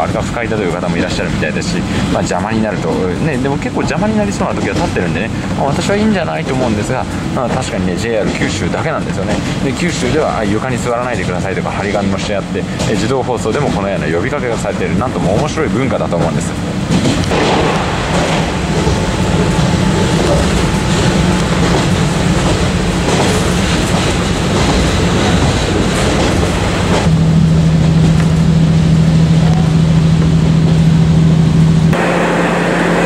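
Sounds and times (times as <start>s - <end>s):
diesel engine drone: 0.0s - 33.0s
rail running noise: 0.0s - 33.0s.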